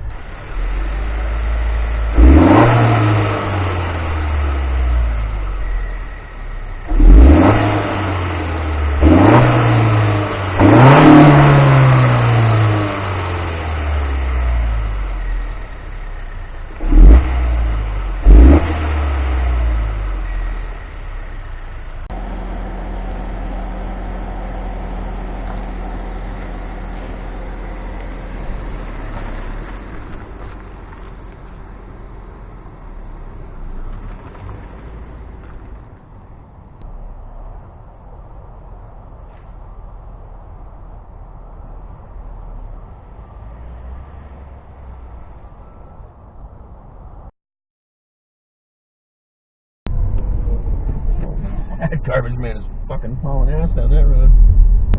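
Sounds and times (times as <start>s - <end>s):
car engine revving: 0.0s - 46.3s, 49.9s - 54.9s
car engine idling: 0.0s - 47.3s, 49.9s - 54.9s.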